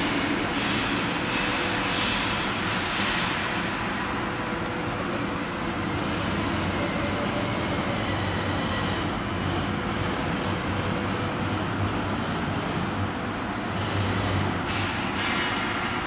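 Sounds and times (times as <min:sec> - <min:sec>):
factory machinery running: 0:00.0 - 0:16.0.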